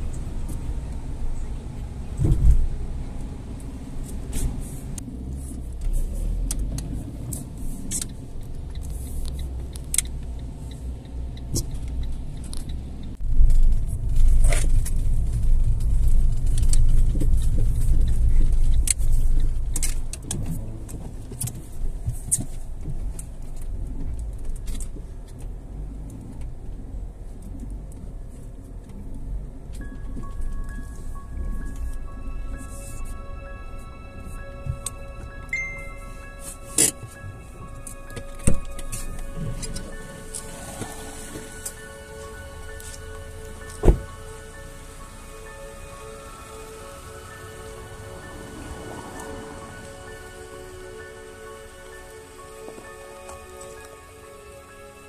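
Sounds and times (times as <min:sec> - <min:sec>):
car road rumble: 0:00.0 - 0:55.0.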